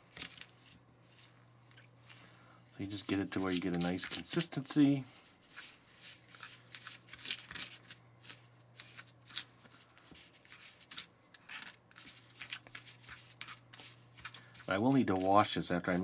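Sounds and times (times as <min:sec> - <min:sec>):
scratchy rustles of dough: 0:00.0 - 0:16.0.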